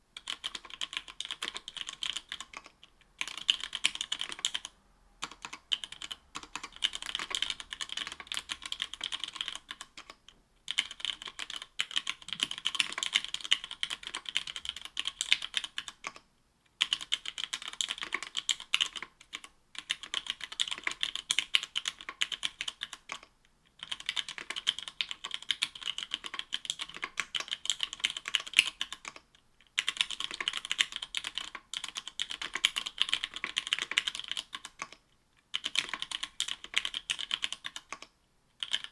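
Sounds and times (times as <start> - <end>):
fast mechanical keyboard typing: 0.2 - 16.2, 16.8 - 38.9.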